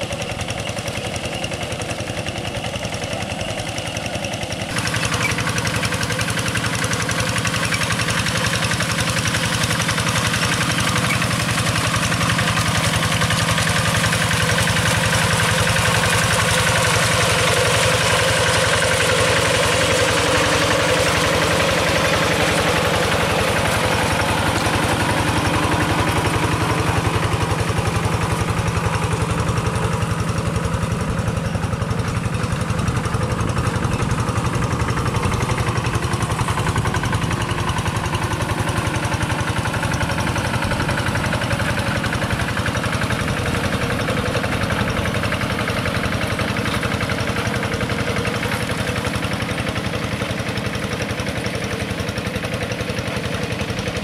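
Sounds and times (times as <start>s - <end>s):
diesel engine knocking steadily: 0.0s - 54.0s.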